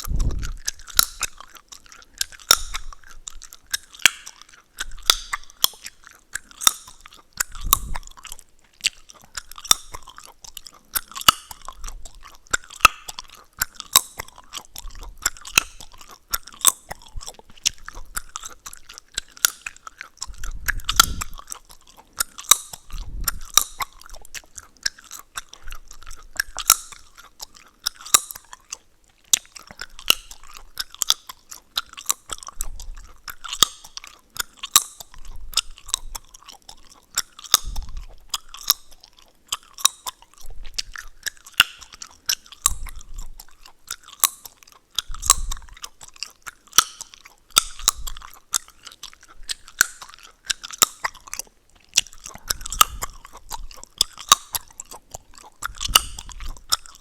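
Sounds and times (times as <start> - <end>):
gum chewing wet smacking: 0.0 - 57.0
gum cracking and popping: 0.0 - 57.0.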